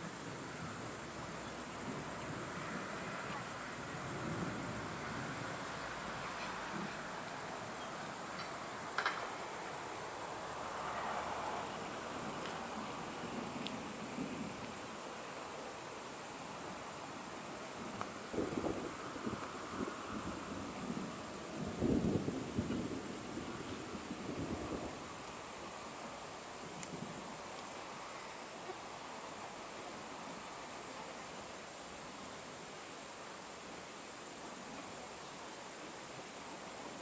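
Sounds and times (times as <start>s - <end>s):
crickets chirring: 0.0s - 37.0s.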